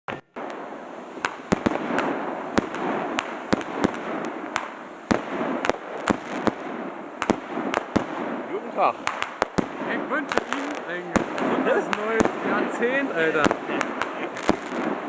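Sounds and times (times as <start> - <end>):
fireworks bangs: 0.1 - 15.0
hiss and crackle: 0.1 - 15.0.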